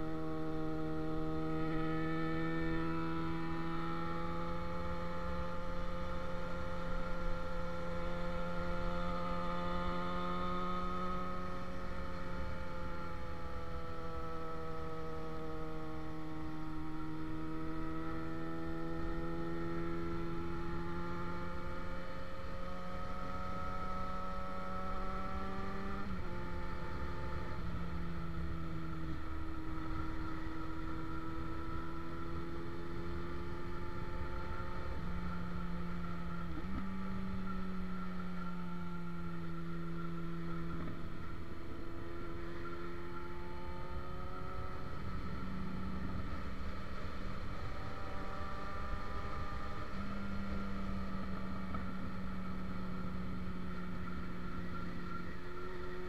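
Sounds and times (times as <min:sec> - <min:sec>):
low wind: 0:00.0 - 0:56.0
road rumble: 0:00.0 - 0:56.0.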